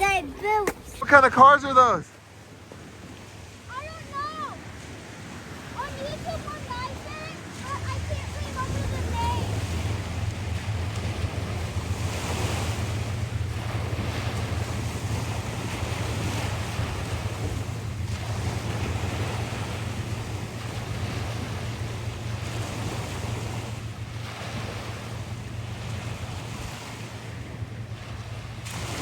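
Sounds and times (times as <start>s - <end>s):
surf breaking on a beach: 0.0s - 29.0s
wind rumble on microphone: 2.6s - 29.0s.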